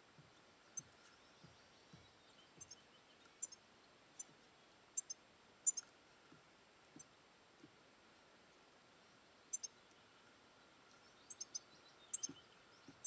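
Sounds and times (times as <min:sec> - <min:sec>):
faint garden background: 0:00.0 - 0:13.0.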